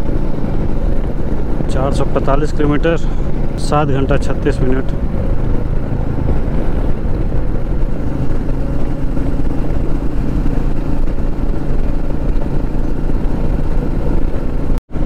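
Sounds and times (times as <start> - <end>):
motorcycle engine running: 0.0 - 15.0
wind noise: 0.0 - 15.0.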